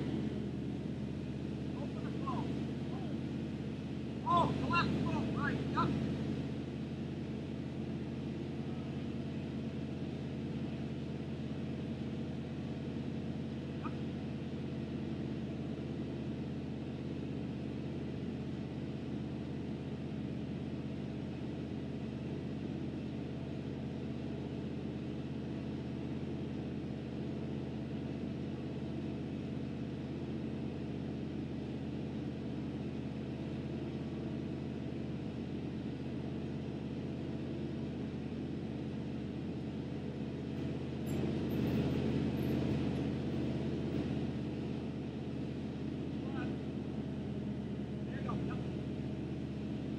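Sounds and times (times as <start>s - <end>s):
truck engine running steadily: 0.0s - 49.9s.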